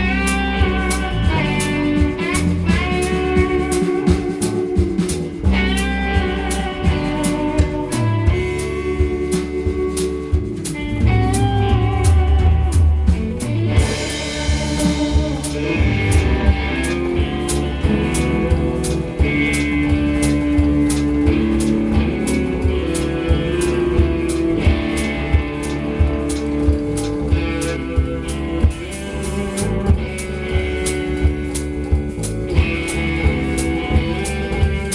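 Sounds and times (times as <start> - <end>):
bass guitar: 0.0 - 34.9
drum kit steady beat: 0.0 - 34.9
guitar sustained notes: 0.0 - 34.9.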